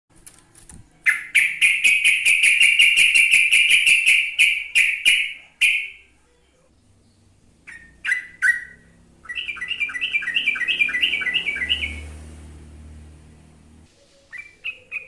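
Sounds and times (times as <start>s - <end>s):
bird singing rapid repeated notes: 1.0s - 12.6s, 13.3s - 15.0s.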